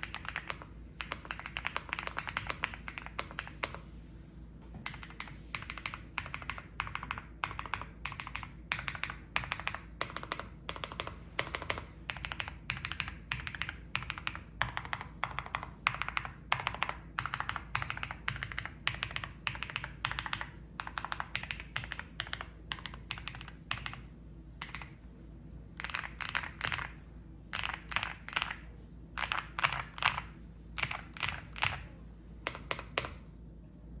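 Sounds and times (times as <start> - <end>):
mechanical keyboard typing: 0.0 - 3.8, 4.8 - 25.0, 25.8 - 33.2.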